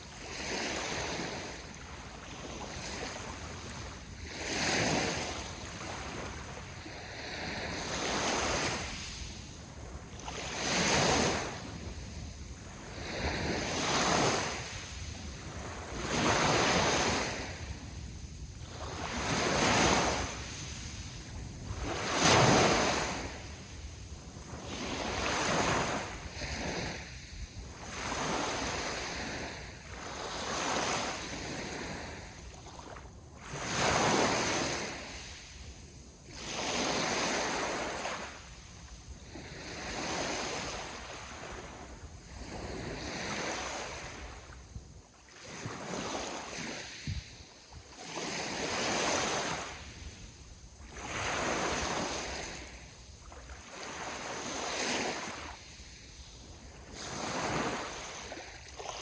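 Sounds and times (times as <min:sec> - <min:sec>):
small waves breaking on shore: 0:00.0 - 0:59.0.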